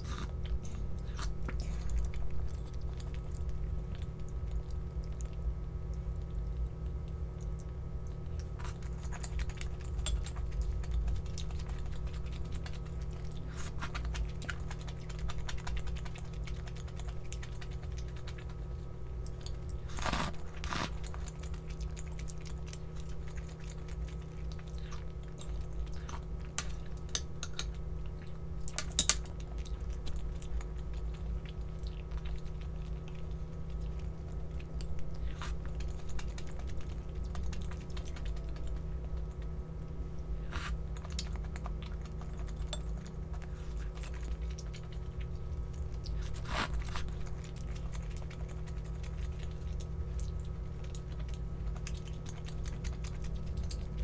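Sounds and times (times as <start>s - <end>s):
food being chewed: 0.0s - 54.0s
steady low hum: 0.0s - 54.0s.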